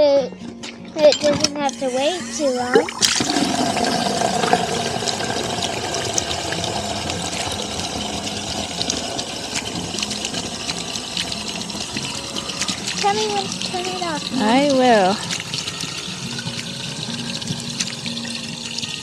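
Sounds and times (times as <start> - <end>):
water running from a hose: 1.8 - 19.0.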